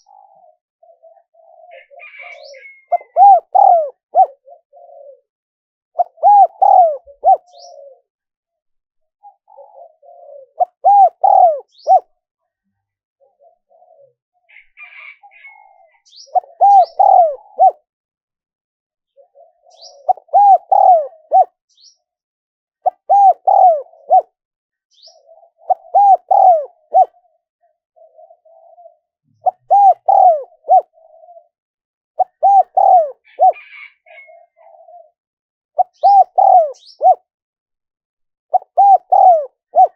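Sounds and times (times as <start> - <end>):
dove cooing: 0.0 - 8.1, 9.2 - 12.1, 13.2 - 17.8, 19.1 - 21.9, 22.8 - 31.6, 32.2 - 35.2, 35.8 - 37.3, 38.5 - 39.9.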